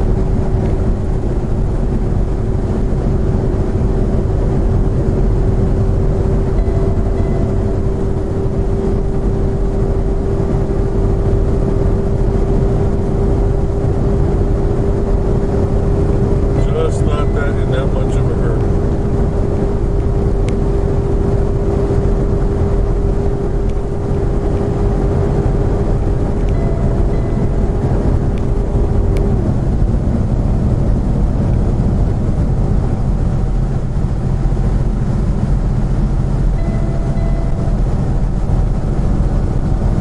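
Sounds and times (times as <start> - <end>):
road and engine rumble: 0.0 - 40.0
steady whine: 0.0 - 40.0.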